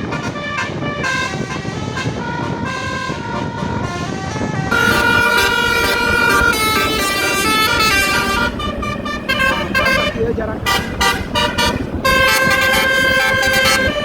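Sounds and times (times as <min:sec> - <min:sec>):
multi-tone bus air horn tune: 0:00.0 - 0:14.0.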